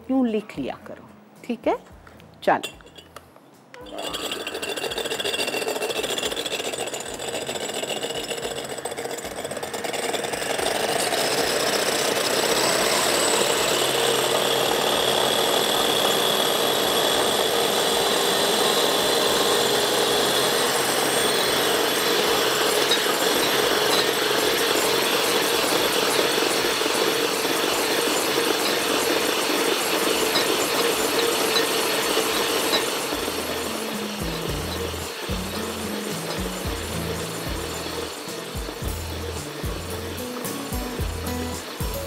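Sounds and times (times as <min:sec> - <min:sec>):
electric beater whisking: 0:03.9 - 0:42.0.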